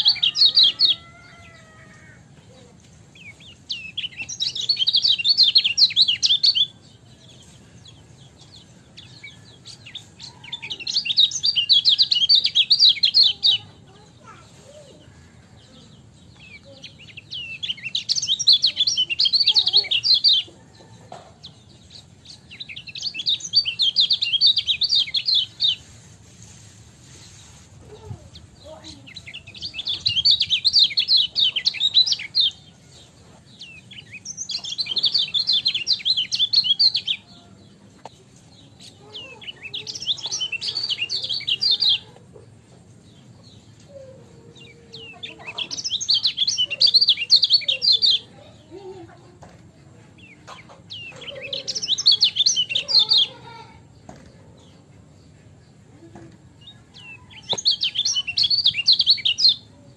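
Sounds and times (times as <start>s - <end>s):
songbird twittering chirps: 0.0s - 59.9s.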